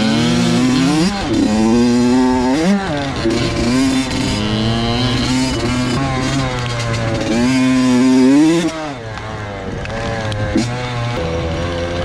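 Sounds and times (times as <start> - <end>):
two-stroke dirt bike engine: 0.0 - 12.0.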